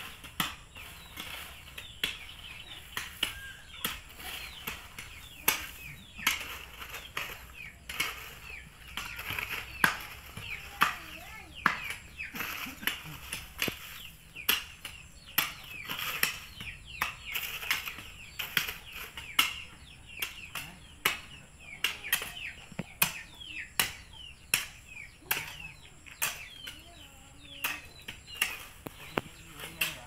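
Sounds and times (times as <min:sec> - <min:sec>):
shovels scraping into gravel and soil: 0:00.0 - 0:30.0.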